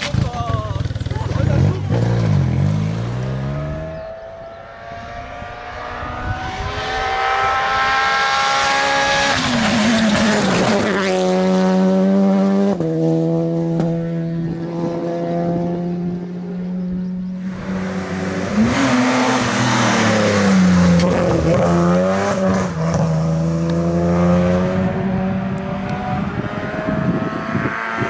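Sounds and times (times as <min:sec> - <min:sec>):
rally car engines at full throttle: 0:00.0 - 0:28.0.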